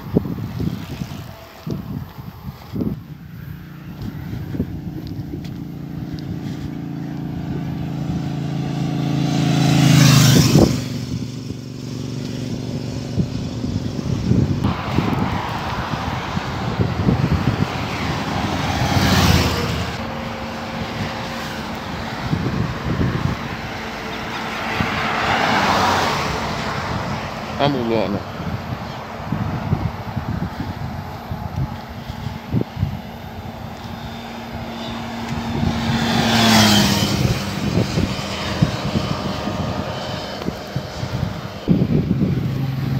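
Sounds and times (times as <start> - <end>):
highway traffic passing: 0.0 - 42.9
vehicle engine hum passing: 0.0 - 42.9
vehicles rushing past: 0.0 - 42.9.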